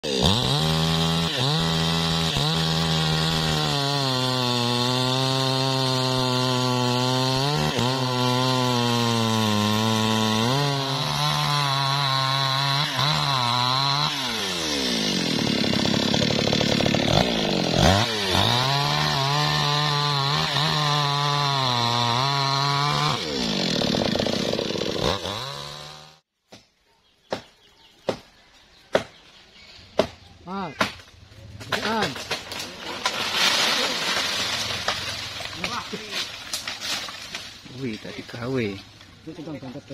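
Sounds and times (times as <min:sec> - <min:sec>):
chainsaw cutting wood: 0:00.0 - 0:26.3, 0:30.8 - 0:39.1.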